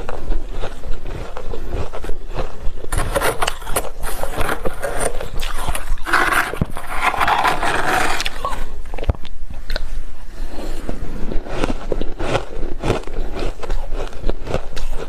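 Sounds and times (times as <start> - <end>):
chewing crunchy frost: 0.0 - 15.0.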